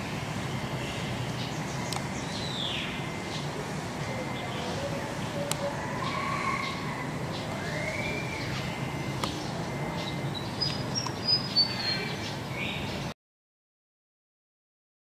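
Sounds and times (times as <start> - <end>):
birds calling and chirping: 0.0 - 13.1.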